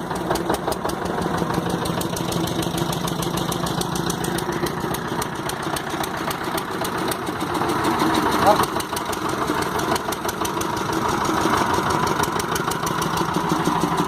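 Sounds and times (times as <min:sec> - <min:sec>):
boat engine chugging: 0:00.0 - 0:14.0.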